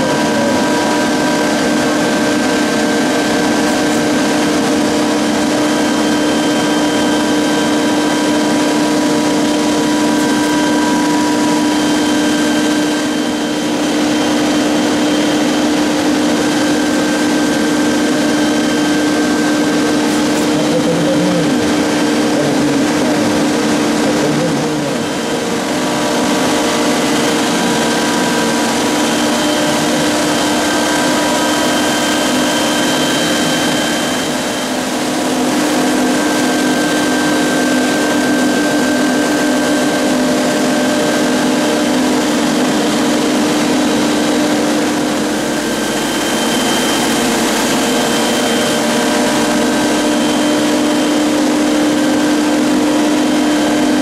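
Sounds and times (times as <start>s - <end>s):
chairlift machinery humming and whining: 0.0s - 54.0s.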